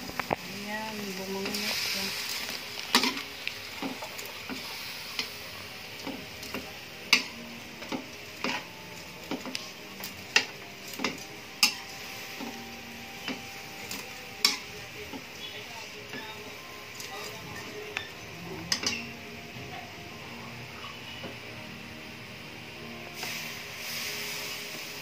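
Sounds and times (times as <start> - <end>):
faint frying sizzle: 0.0 - 25.0.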